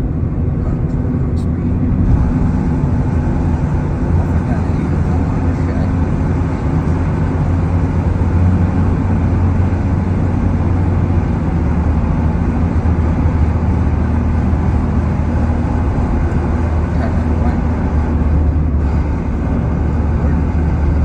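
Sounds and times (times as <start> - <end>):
car road and engine rumble: 0.0 - 21.0
constant low hum: 0.0 - 21.0.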